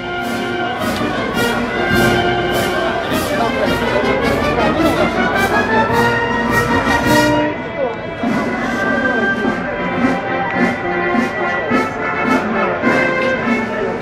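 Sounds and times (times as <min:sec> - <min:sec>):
brass band playing a march: 0:00.0 - 0:14.0.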